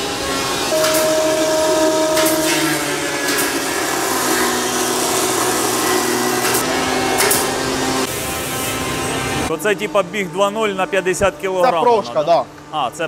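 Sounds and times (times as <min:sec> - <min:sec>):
electric motors humming: 0:00.0 - 0:13.0.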